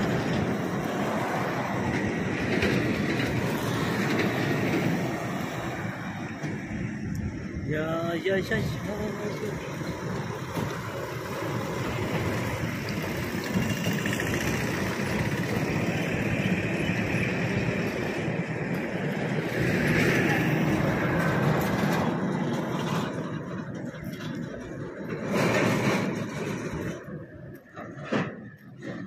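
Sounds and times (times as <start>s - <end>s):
trucks driving past: 0.0s - 29.0s.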